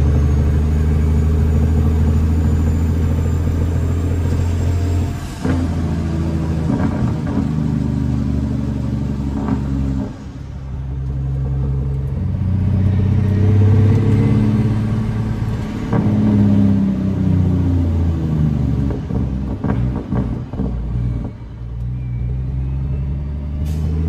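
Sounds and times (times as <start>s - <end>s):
diesel truck engine braking: 0.0s - 24.0s.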